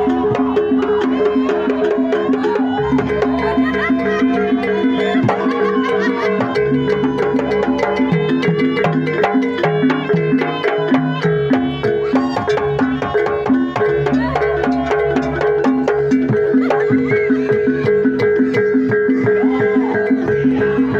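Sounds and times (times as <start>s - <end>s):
drums and struck percussion: 0.0s - 20.9s.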